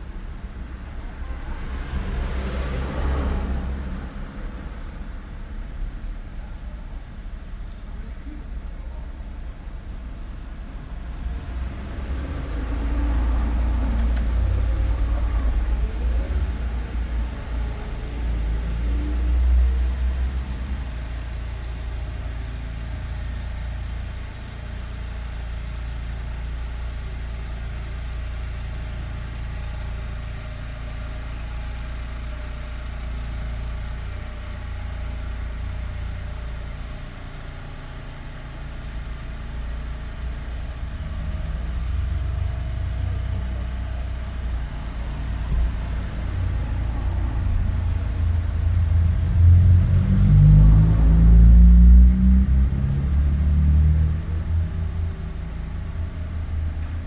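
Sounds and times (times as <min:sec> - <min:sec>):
low rumble of street traffic: 0:00.0 - 0:57.0.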